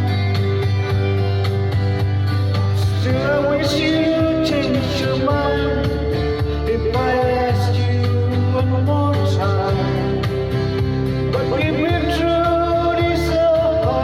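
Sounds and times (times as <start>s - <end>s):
acoustic guitar: 0.0s - 14.0s
country-folk song: 0.0s - 14.0s
steady bass: 0.0s - 14.0s.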